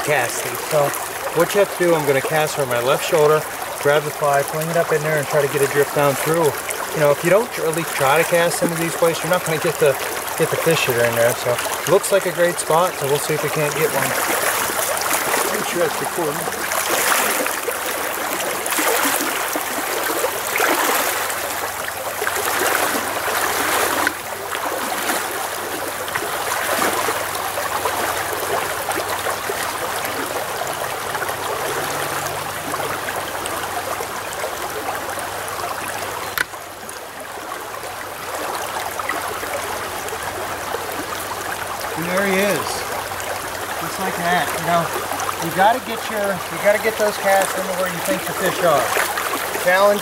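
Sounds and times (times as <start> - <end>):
stream rushing over riffles: 0.0 - 50.0
waders sloshing through water: 0.0 - 50.0.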